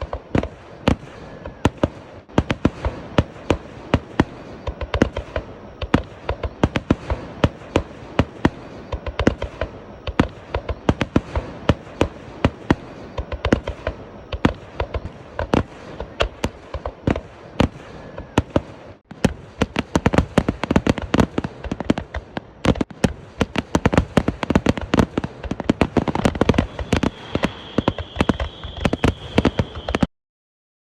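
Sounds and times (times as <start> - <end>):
fireworks bangs and crackles: 0.0 - 30.1
high firework whistle: 0.0 - 30.1.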